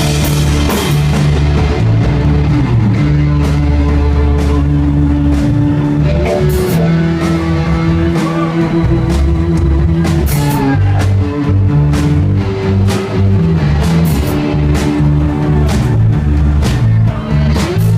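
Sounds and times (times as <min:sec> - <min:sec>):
bass guitar: 0:00.0 - 0:17.9
drum kit with cymbal hits: 0:00.0 - 0:17.9
electric guitar: 0:00.0 - 0:17.9.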